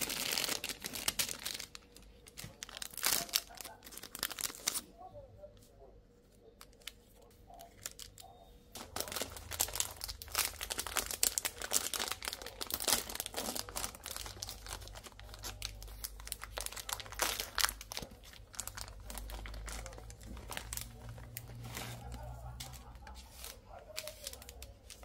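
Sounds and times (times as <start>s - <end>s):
packaging crinkling and tearing: 0.0s - 5.0s, 6.6s - 25.0s.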